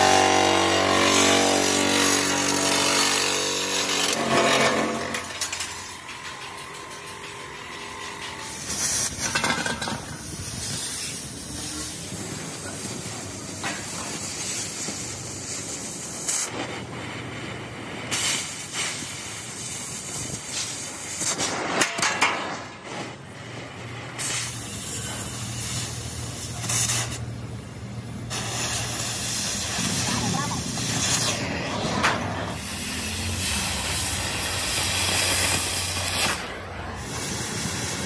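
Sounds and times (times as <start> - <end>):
cutting torch hissing: 0.0 - 6.0, 8.4 - 38.0.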